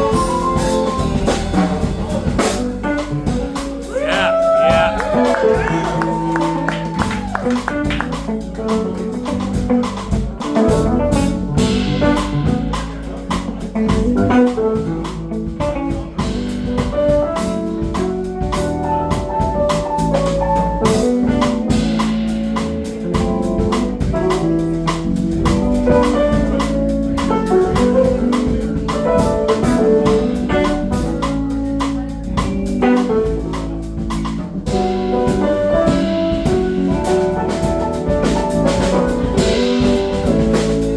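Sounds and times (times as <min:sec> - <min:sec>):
funk band playing: 0:00.0 - 0:40.9.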